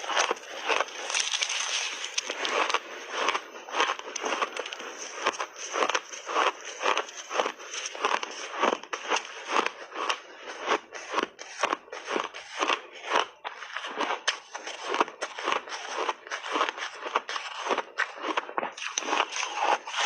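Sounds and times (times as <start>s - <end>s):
crunching shaved ice: 0.0s - 20.0s.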